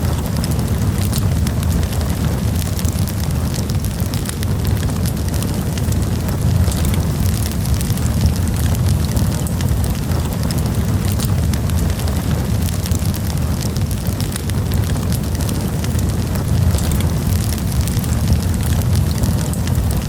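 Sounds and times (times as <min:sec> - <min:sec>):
campfire crackling and popping: 0:00.0 - 0:20.0
low rumble of flames: 0:00.0 - 0:20.0.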